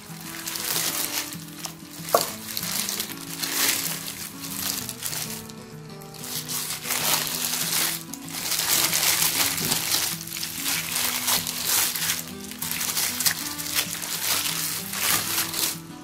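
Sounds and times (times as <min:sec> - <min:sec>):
background music melody: 0:00.0 - 0:16.0
plastic glove crinkling: 0:00.0 - 0:16.0
wet squelching of meat: 0:00.2 - 0:05.5, 0:06.2 - 0:15.8.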